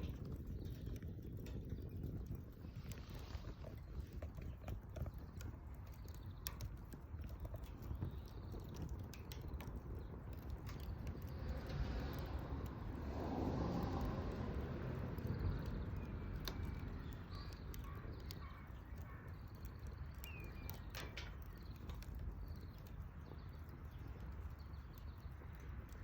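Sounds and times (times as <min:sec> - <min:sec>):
fire popping: 0:00.0 - 0:26.0
low steady rumble: 0:00.0 - 0:26.0
small birds chirping: 0:00.0 - 0:26.0
wood fire crackling: 0:00.0 - 0:26.0.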